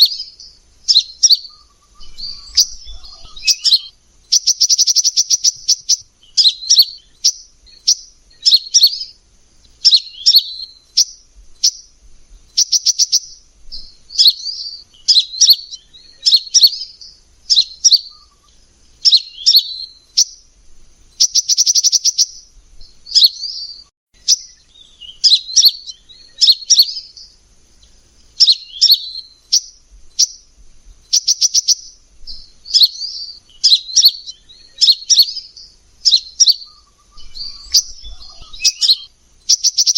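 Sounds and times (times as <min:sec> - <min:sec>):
bird chirping and trilling: 0:00.0 - 0:20.4, 0:21.1 - 0:39.9.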